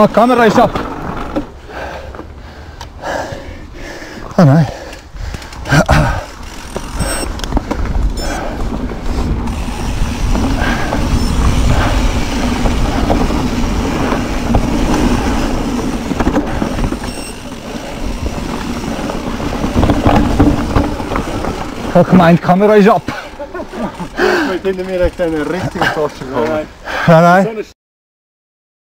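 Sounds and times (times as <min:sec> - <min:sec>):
bike knocking and rattling: 0:00.0 - 0:02.3, 0:04.5 - 0:26.7
tyres rumbling on dirt: 0:00.0 - 0:02.4, 0:05.4 - 0:27.4.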